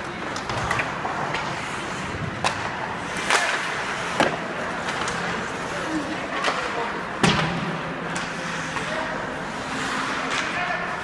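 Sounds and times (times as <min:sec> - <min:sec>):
hockey sticks striking puck: 0:00.0 - 0:11.0.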